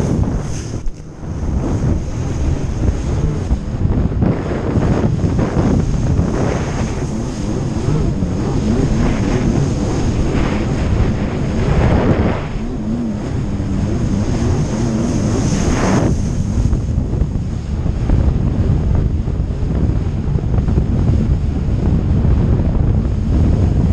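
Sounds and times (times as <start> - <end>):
jet ski engine running: 0.0 - 23.9
wind buffeting microphone: 0.0 - 23.9.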